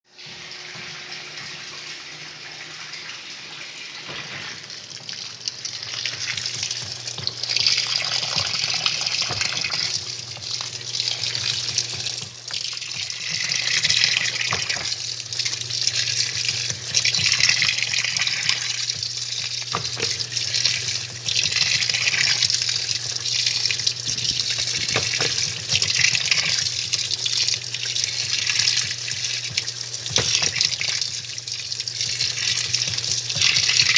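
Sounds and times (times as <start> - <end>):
water gushing into washing machine: 0.1 - 33.9.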